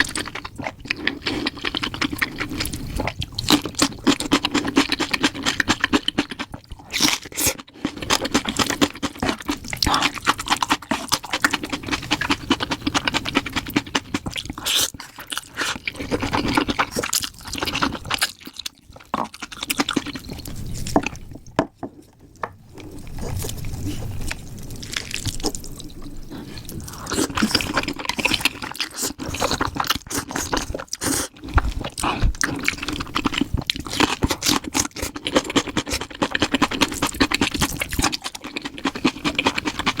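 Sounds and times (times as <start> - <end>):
chewing and crunching: 0.0 - 40.0.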